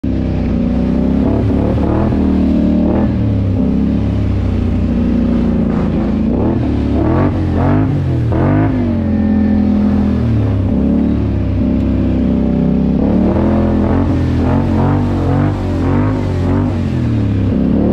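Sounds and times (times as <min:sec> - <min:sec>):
atv engine revving: 0:00.0 - 0:17.9.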